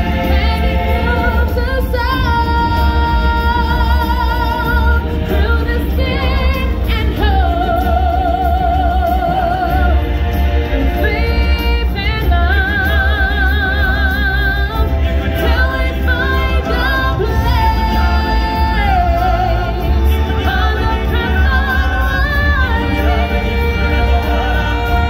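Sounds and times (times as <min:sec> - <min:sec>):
person singing with vibrato: 0:00.0 - 0:25.0.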